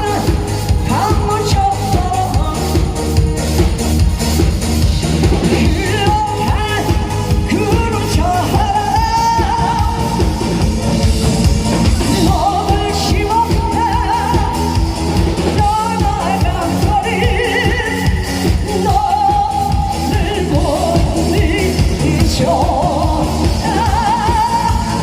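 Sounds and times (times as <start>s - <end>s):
person singing with vibrato: 0.0s - 3.8s, 5.3s - 25.0s
backing track with steady beat: 0.0s - 25.0s.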